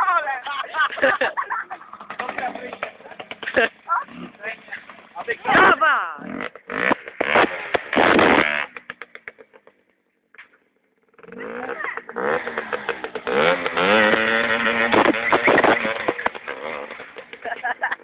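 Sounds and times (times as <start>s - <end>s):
small motorcycle engine revving: 1.0s - 9.7s, 10.9s - 18.0s.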